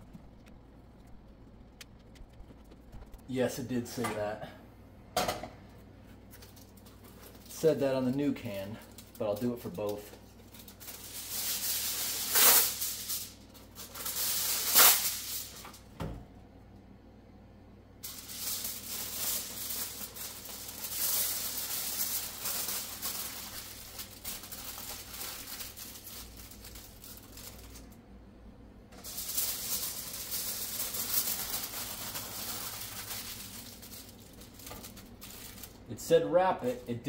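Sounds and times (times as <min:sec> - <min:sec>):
aluminum foil crinkling: 0:00.0 - 0:03.3, 0:06.2 - 0:15.8, 0:18.0 - 0:28.0, 0:28.9 - 0:37.0.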